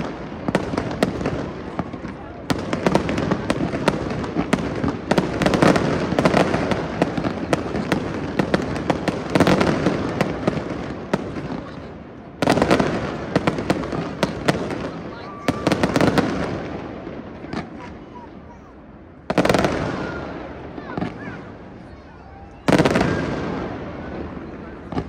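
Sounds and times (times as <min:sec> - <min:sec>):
fireworks cracks and bangs: 0:00.0 - 0:18.6, 0:19.2 - 0:25.0.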